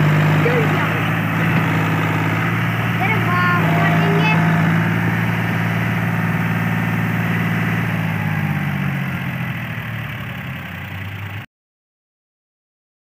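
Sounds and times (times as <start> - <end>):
tractor diesel engine running: 0.0 - 11.5.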